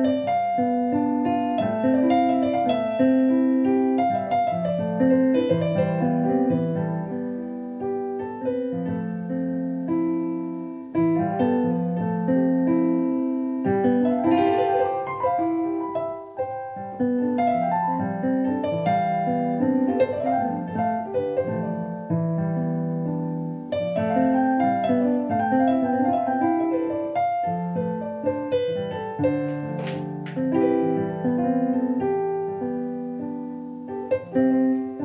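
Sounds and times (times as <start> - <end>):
improvised piano music: 0.0 - 35.0.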